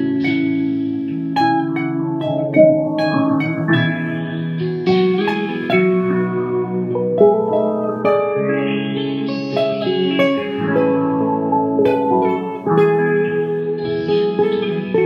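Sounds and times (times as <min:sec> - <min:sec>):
solo electric guitar: 0:00.0 - 0:15.0.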